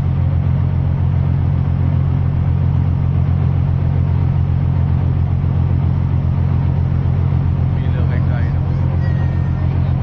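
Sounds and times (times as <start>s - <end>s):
ferry engines droning: 0.0s - 10.0s.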